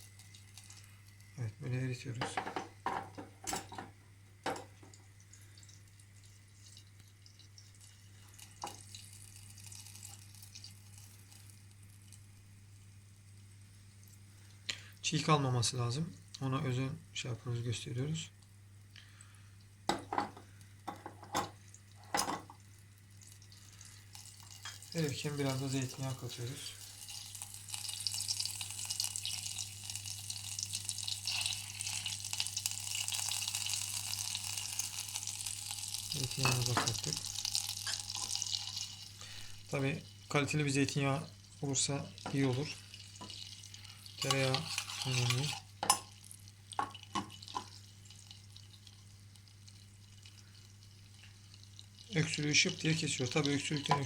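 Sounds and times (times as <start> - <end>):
butter crackling and sizzling: 0.0 - 14.9, 18.1 - 54.0
low steady hum: 0.0 - 54.0.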